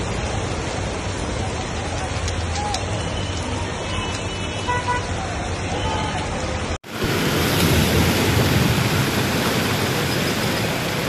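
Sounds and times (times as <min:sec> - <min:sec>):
floodwater rushing across road: 0:00.0 - 0:11.0
street sound in heavy rain: 0:00.0 - 0:11.0.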